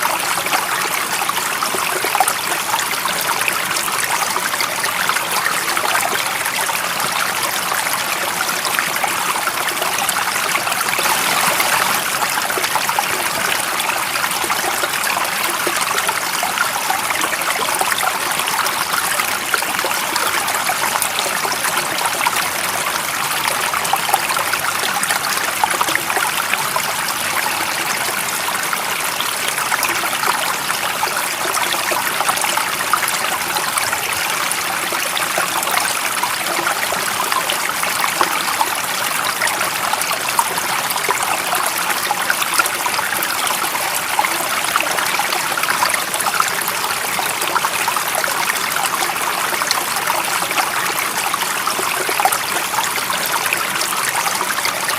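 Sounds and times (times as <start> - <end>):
stream running water: 0.0 - 54.9.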